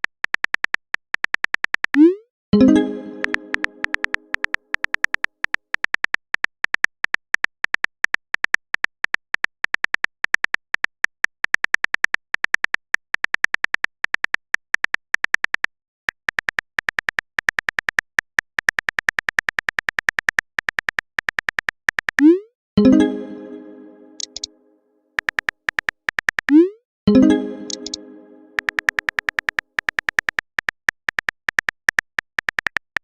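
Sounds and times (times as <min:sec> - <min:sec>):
phone keyboard typing clicks: 0:00.0 - 0:22.3, 0:24.2 - 0:24.5, 0:25.2 - 0:33.0.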